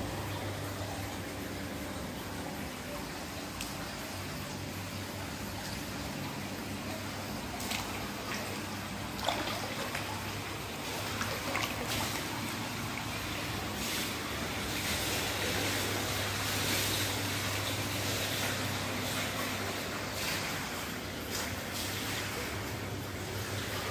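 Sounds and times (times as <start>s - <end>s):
water rushing: 0.0s - 23.9s.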